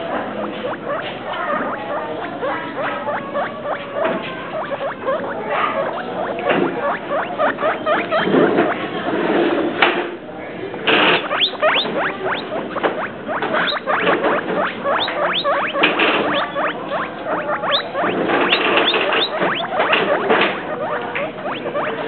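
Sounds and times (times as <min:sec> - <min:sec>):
guinea pigs squeaking: 0:00.0 - 0:09.3, 0:10.9 - 0:22.0.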